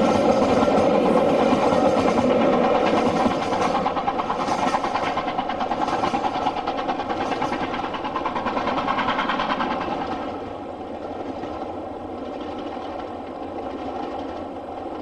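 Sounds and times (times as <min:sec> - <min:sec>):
train clattering past: 0:00.0 - 0:15.0.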